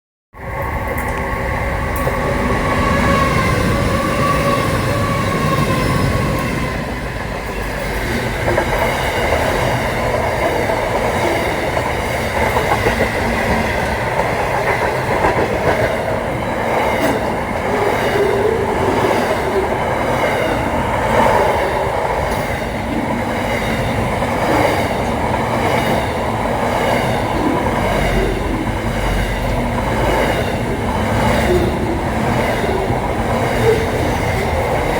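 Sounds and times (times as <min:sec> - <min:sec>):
freight train rumbling past: 0:00.4 - 0:34.9
wheels clacking over rail joints: 0:01.9 - 0:34.9.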